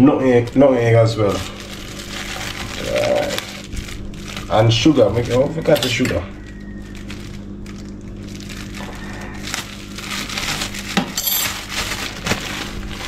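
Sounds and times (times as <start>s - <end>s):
plastic bag crinkling: 0.0s - 13.0s
steady low hum: 0.0s - 13.0s.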